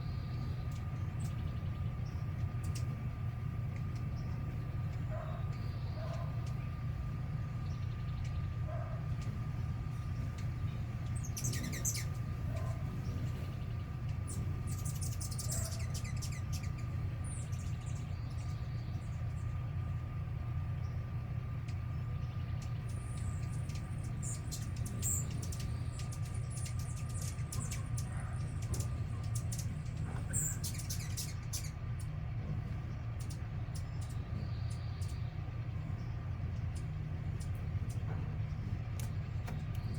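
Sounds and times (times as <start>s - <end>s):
faint steady hum: 0.0s - 39.9s
small birds chirping: 0.0s - 39.9s.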